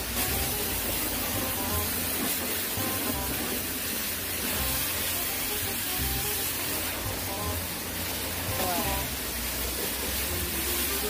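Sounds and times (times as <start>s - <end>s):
pressure washer water jet hissing: 0.0s - 11.0s.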